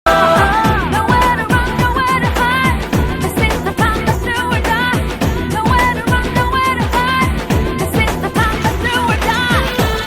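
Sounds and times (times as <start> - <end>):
pop song with singing: 0.0 - 10.0
steady drum beat: 0.1 - 10.0.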